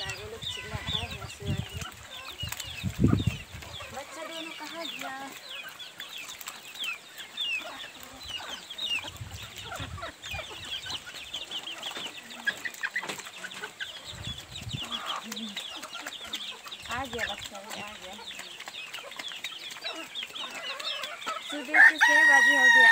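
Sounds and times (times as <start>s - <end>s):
chickens clucking and chirping: 0.0s - 22.9s.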